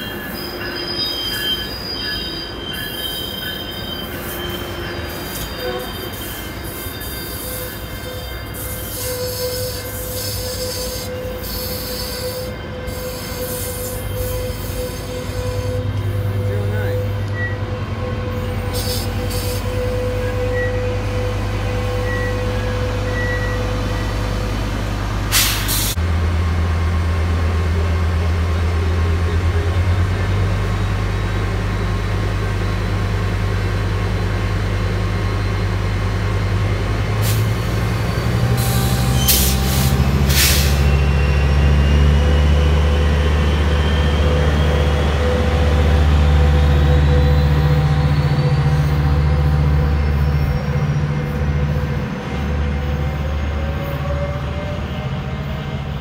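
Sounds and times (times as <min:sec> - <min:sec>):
diesel locomotive engine drone: 0:00.0 - 0:56.0
rising train whine: 0:00.0 - 0:56.0.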